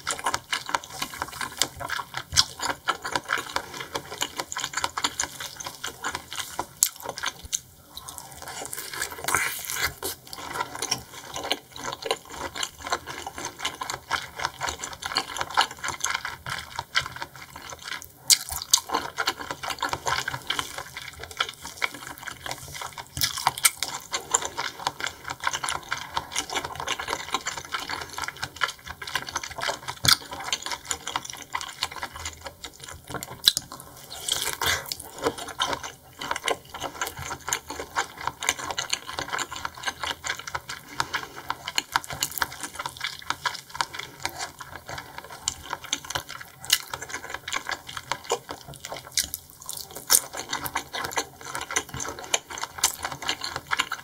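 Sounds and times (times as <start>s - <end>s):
close-miked chewing with mouth clicks: 0.0s - 54.0s.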